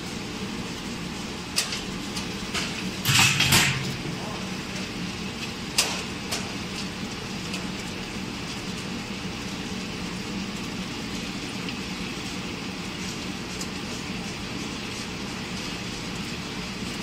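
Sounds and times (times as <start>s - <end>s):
mixing kettle motor humming: 0.0s - 17.0s.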